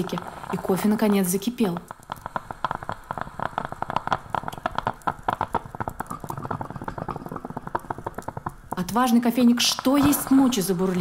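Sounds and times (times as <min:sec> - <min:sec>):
coffee pot bubbling: 0:00.0 - 0:11.0.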